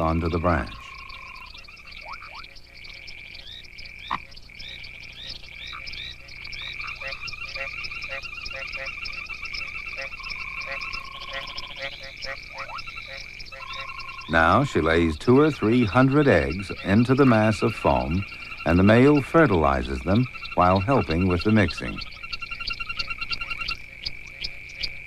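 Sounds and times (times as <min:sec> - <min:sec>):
frogs calling: 0:00.0 - 0:25.0.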